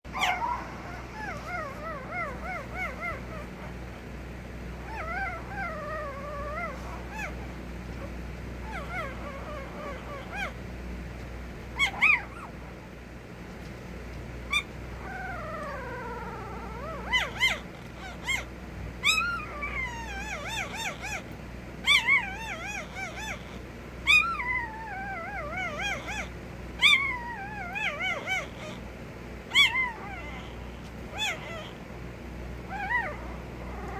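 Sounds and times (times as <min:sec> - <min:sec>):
puppy whining and whimpering: 0:00.1 - 0:04.0, 0:04.8 - 0:10.6, 0:11.8 - 0:12.7, 0:14.5 - 0:28.9, 0:29.5 - 0:31.9, 0:32.6 - 0:33.9.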